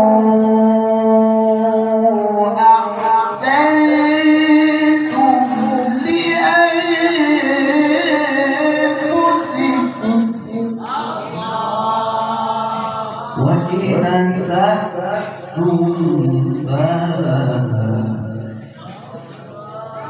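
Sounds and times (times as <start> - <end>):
man reciting melodically into microphone: 0.0 - 11.8, 12.5 - 20.0.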